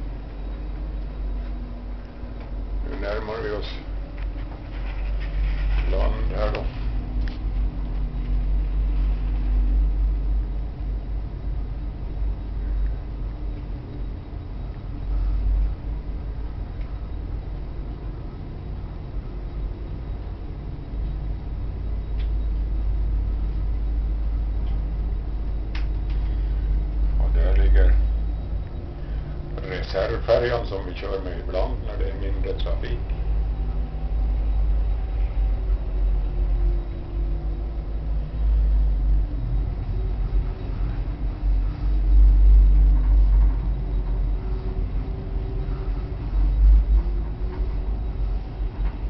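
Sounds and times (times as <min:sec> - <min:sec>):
faint wavering hum: 0:00.0 - 0:49.0
ferry engine rumble: 0:00.0 - 0:49.0.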